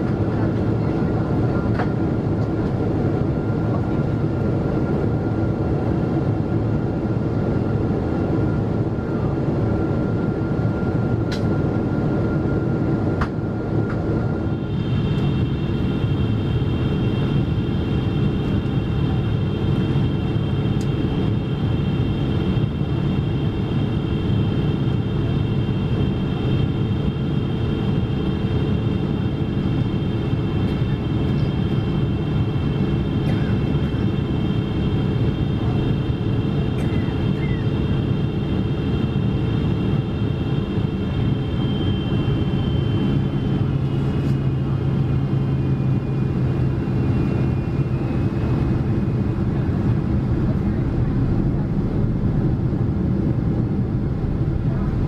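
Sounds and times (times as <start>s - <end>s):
jet engines rumbling with fan whine: 0.0s - 55.0s
low engine hum: 0.0s - 55.0s.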